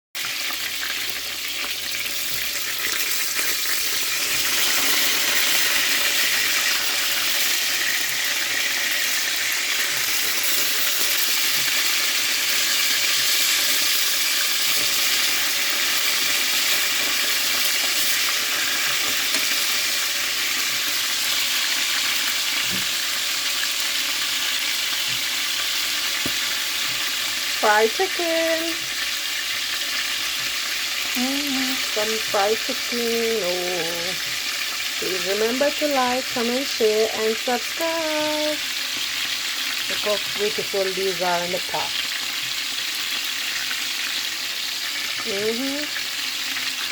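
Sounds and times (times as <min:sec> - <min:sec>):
chicken sizzling in hot oil: 0:00.2 - 0:46.9.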